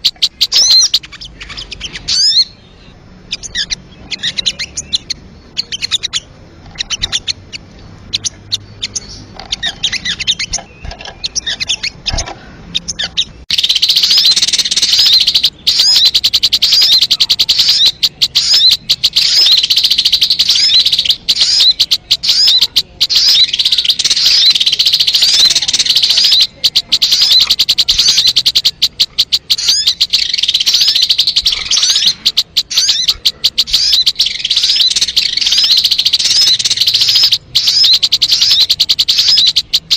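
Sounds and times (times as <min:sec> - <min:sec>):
recorded bird chirping: 0:00.0 - 0:39.9.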